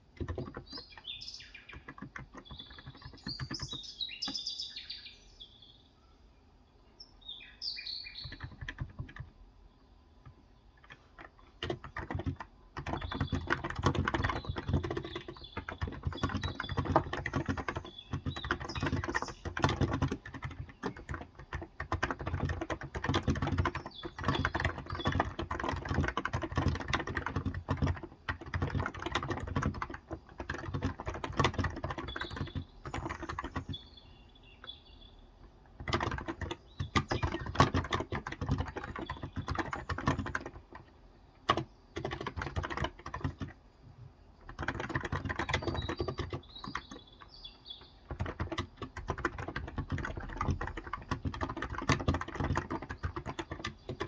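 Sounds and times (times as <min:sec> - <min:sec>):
fast typing on keyboard: 0:00.0 - 0:04.4, 0:08.2 - 0:09.4, 0:10.2 - 0:33.9, 0:35.6 - 0:43.6, 0:44.4 - 0:54.0.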